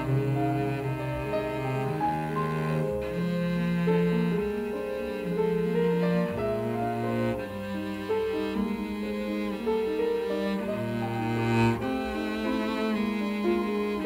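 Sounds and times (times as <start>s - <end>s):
cello bowed melody: 0.0s - 14.0s
piano accompaniment: 0.0s - 14.0s.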